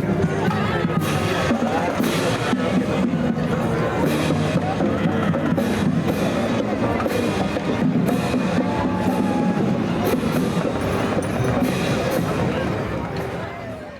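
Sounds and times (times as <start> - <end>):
drum and cymbal hits: 0.0 - 13.6
marching band playing: 0.0 - 13.9.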